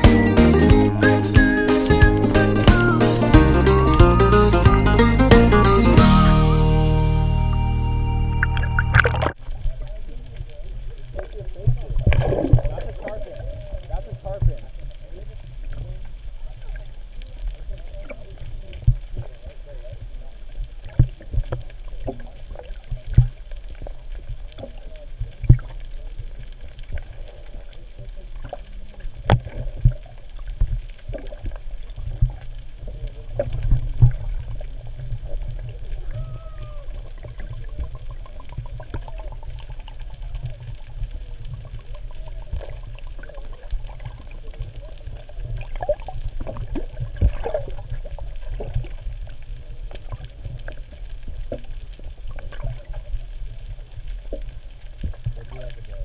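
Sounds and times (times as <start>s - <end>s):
low underwater rumble: 4.7s - 56.0s.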